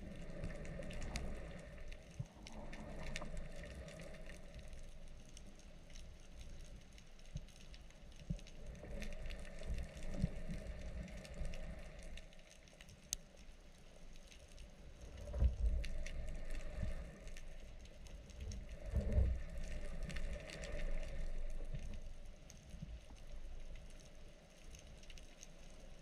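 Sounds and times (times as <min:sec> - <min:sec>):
faint clicks and crackles: 0:00.0 - 0:26.0
low water surges: 0:00.0 - 0:26.0
underwater water rumble: 0:00.0 - 0:26.0.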